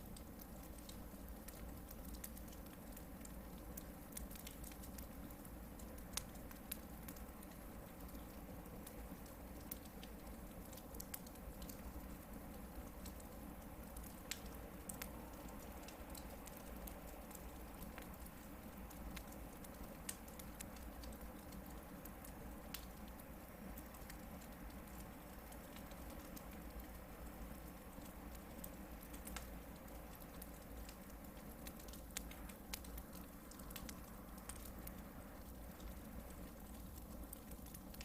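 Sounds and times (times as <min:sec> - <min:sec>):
campfire crackling: 0:00.0 - 0:38.0
low rumble of fire: 0:00.0 - 0:38.0.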